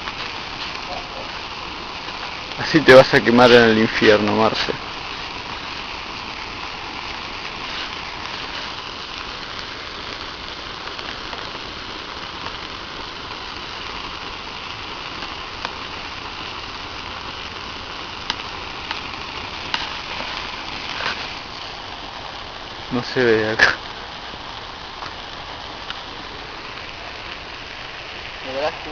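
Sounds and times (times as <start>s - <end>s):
fire crackling pops: 0.0s - 28.9s
hiss of flames: 0.0s - 28.9s.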